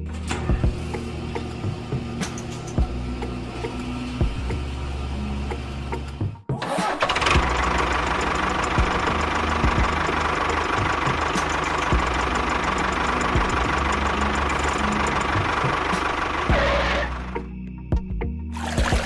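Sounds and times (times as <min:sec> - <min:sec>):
small motor rattling and whining: 0:00.0 - 0:06.2, 0:07.1 - 0:17.4.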